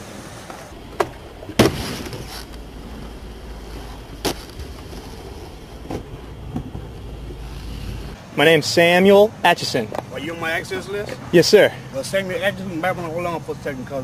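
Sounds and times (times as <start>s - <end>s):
skateboard wheels rolling on concrete: 0.0s - 14.0s.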